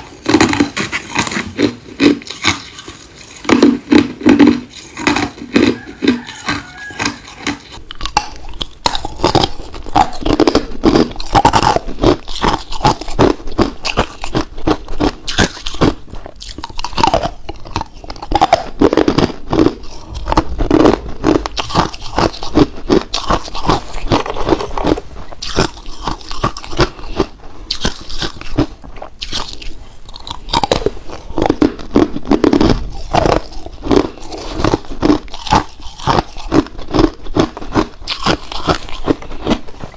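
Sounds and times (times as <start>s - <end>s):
person chewing ice cubes: 0.0s - 39.9s.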